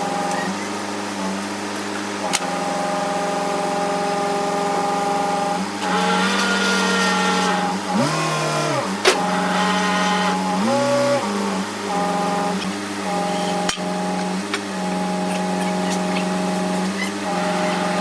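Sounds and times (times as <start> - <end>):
power tool motor cutting wood: 0.0 - 18.0.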